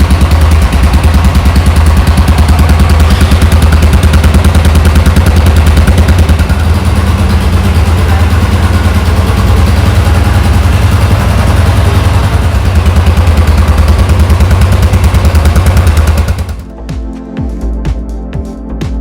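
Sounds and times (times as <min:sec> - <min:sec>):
motorcycle engine idling: 0:00.0 - 0:16.7.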